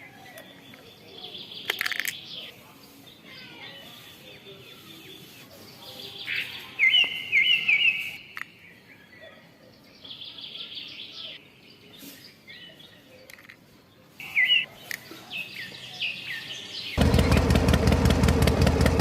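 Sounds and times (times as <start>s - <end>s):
songbirds chirping and singing: 0.0s - 17.8s.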